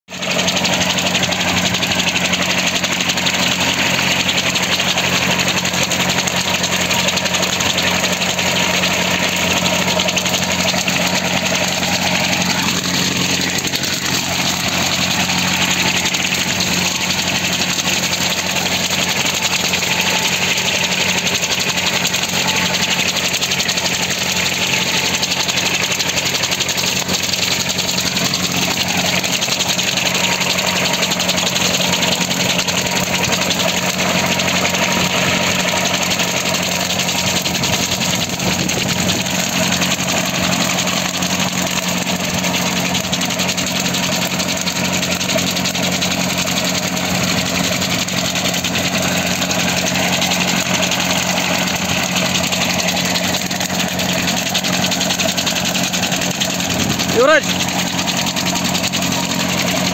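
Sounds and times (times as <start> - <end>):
tractor engine running: 0.0 - 59.9
brush cutter whirring: 0.1 - 59.9.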